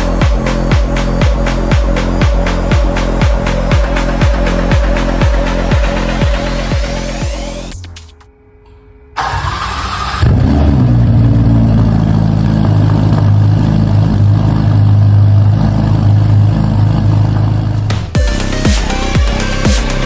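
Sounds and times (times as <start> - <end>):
engine cranking and idling: 0.0 - 8.2, 9.2 - 20.0.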